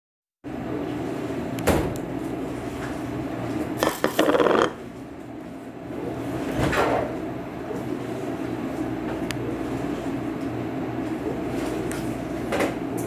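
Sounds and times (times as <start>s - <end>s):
steady background hum: 0.4s - 13.0s.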